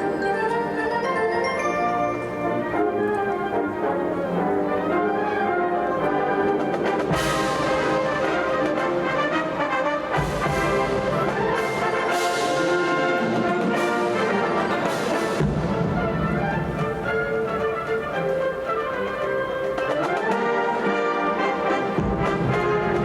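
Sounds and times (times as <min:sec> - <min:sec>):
wind band playing: 0:00.0 - 0:23.0.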